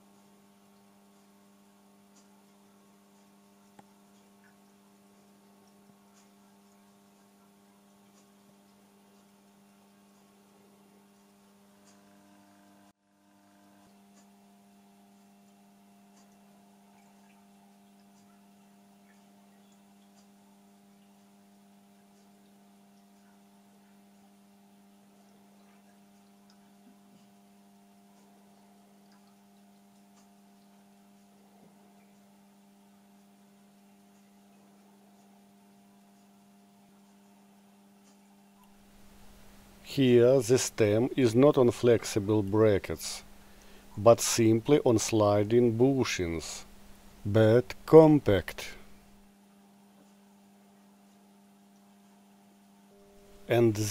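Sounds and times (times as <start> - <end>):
low electrical hum: 0.0 - 53.9.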